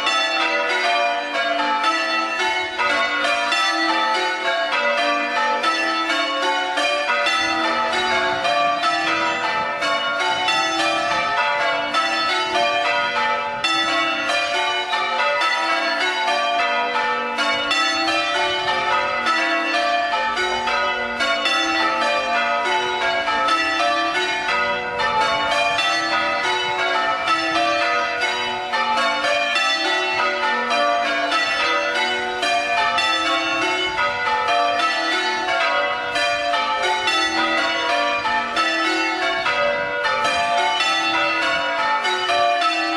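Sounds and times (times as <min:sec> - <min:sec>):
church bells change ringing: 0:00.0 - 0:42.9.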